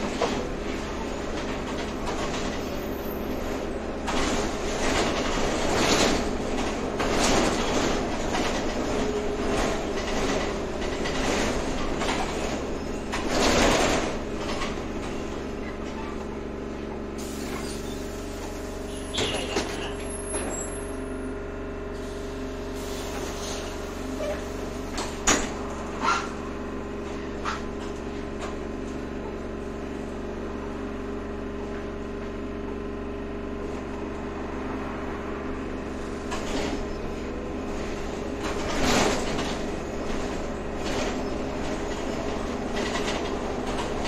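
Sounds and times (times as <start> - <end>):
vehicle ride rumble: 0.0 - 44.0.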